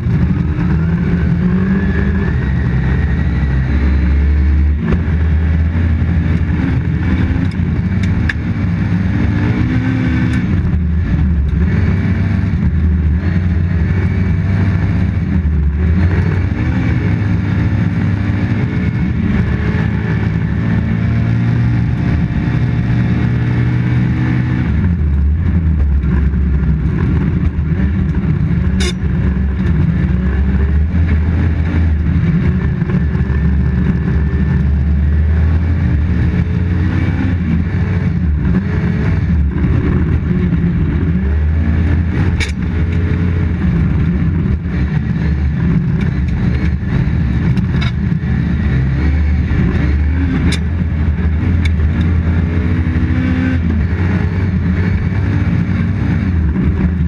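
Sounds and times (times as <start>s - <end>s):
car engine at full throttle: 0.0s - 57.0s
tyre and road noise: 0.0s - 57.0s.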